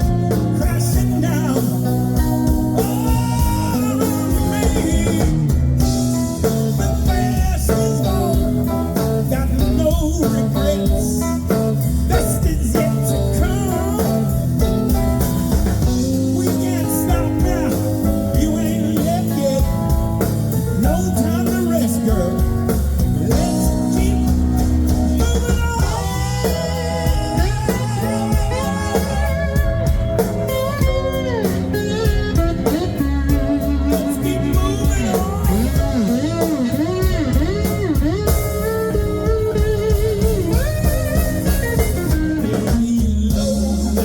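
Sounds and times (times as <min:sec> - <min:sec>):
bass and drums: 0:00.0 - 0:44.0.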